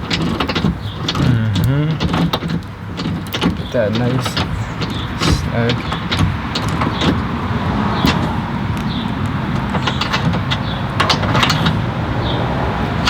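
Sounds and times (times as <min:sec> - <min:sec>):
background rumble: 0:00.0 - 0:13.0
metallic clicks and knocks: 0:00.0 - 0:13.0.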